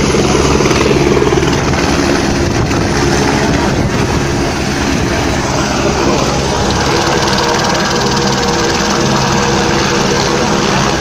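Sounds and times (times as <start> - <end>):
helicopter turbine and rotor: 0.0 - 11.0.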